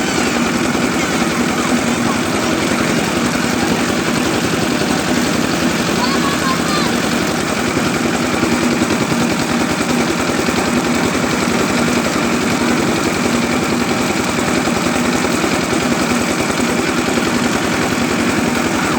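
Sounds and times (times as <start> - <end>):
small engine chugging: 0.0 - 18.9.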